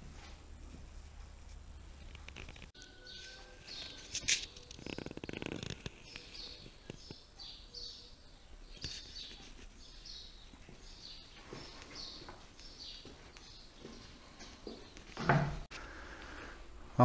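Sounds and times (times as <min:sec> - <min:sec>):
small birds chirping: 0:01.2 - 0:15.2.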